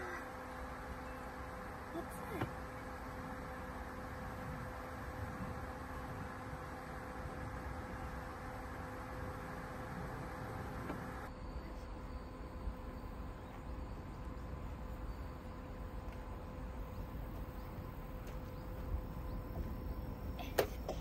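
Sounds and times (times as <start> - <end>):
insects droning: 0.0 - 21.0
low wind rumble: 0.0 - 21.0.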